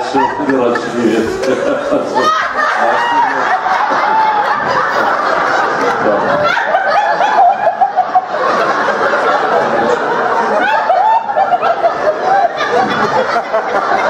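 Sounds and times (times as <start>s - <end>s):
audience laughing: 0.0s - 14.0s.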